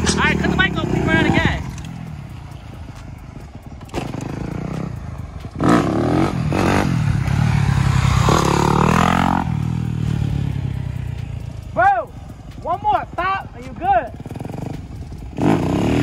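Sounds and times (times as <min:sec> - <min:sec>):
dirt bike engine revving: 0:00.0 - 0:11.8, 0:12.5 - 0:16.0.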